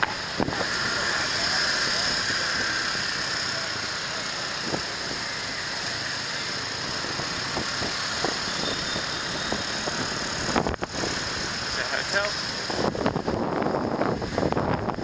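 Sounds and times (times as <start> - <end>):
road noise: 0.0 - 15.0
scooter engine hum: 0.0 - 15.0.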